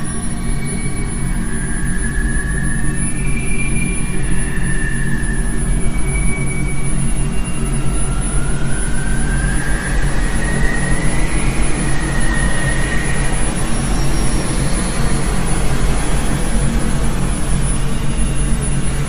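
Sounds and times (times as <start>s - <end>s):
steady rumbling drone: 0.0s - 19.0s
thin rising whine: 0.0s - 19.0s.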